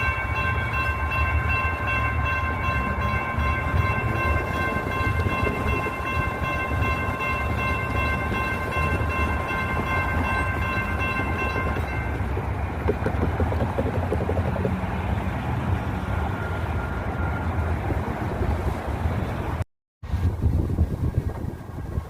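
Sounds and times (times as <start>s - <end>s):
light rail train whine: 0.0s - 13.4s, 14.7s - 22.0s
train rumble: 0.0s - 22.0s.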